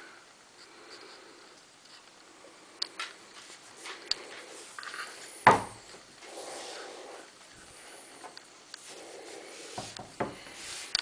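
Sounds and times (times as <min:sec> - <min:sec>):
rustling: 0:00.6 - 0:11.0.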